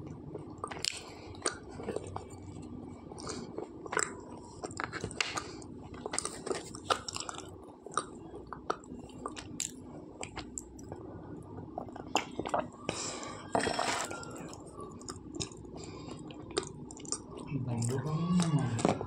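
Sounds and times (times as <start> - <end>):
crunchy chewing: 0.4 - 11.0, 11.7 - 17.5.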